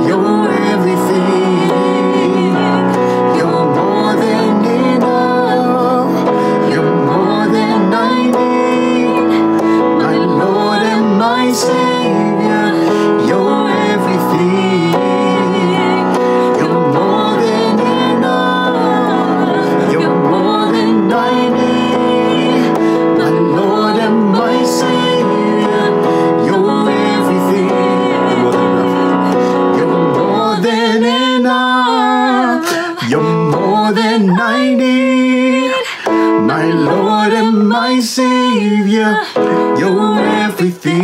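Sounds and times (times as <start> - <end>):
keyboard chords: 0.0 - 41.0
woman and man singing: 0.0 - 41.0.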